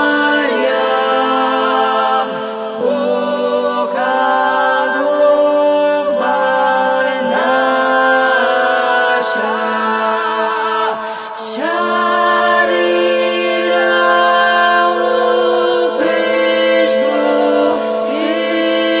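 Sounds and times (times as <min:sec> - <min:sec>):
chanted singing: 0:00.0 - 0:19.0.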